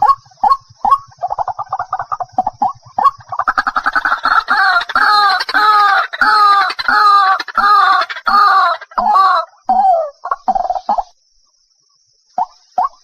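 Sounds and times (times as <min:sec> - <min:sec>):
bird croaking calls: 0:00.0 - 0:11.2.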